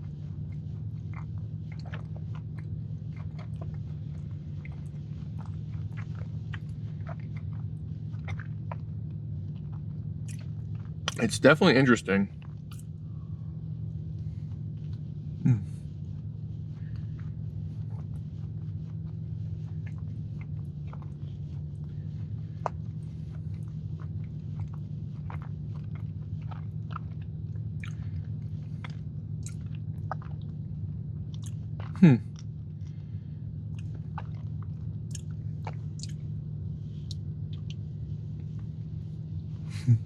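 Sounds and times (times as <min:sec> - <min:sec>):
chewing cookie close-up: 0:00.0 - 0:40.0
steady low hum: 0:00.0 - 0:40.0.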